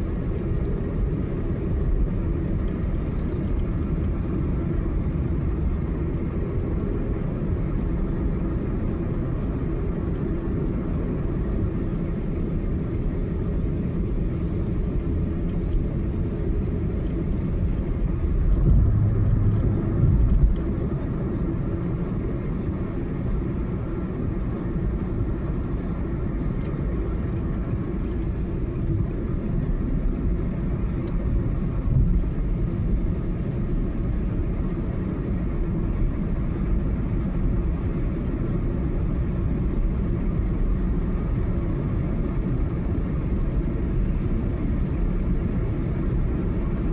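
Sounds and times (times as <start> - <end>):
car road and engine rumble: 0.0 - 46.9.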